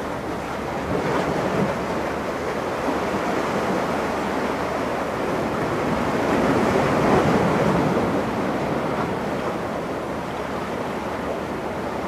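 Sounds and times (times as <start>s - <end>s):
sea waves washing: 0.0s - 12.0s
wind: 0.0s - 12.0s.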